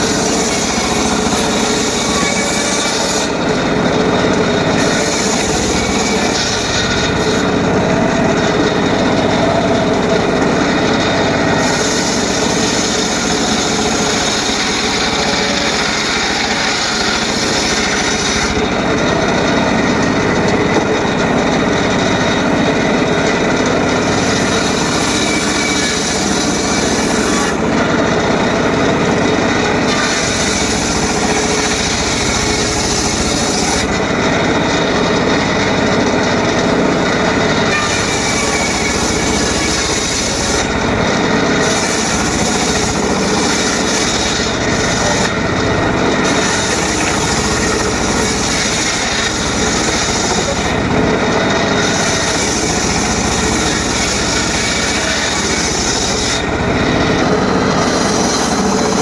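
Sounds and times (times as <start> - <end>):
circular saw cutting wood: 0.0 - 59.0.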